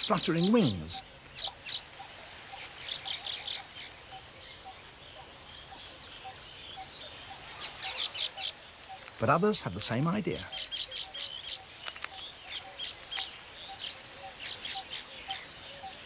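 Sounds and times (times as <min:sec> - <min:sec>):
birds chirping in bursts: 0:00.0 - 0:16.0
faint outdoor background: 0:00.0 - 0:16.0.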